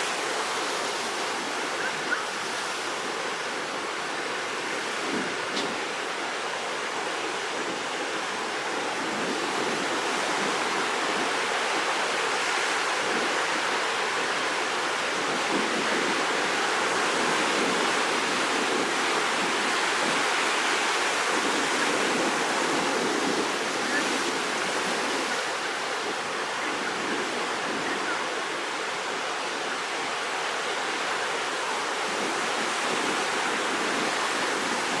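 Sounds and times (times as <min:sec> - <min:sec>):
surf and breaking waves: 0:00.0 - 0:35.0.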